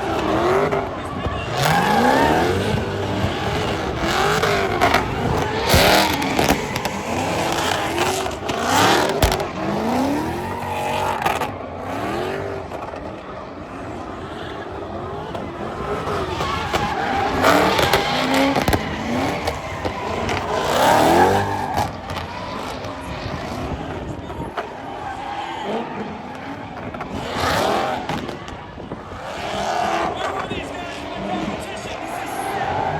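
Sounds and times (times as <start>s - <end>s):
car engine revving hard: 0.0s - 32.9s
tyres squealing: 0.0s - 32.9s.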